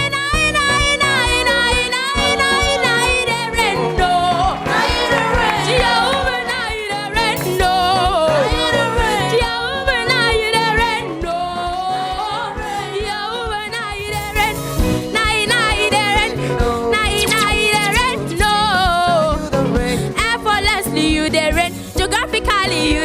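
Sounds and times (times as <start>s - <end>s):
girl singing gospel song: 0.0s - 19.6s
instrumental backing: 0.0s - 23.0s.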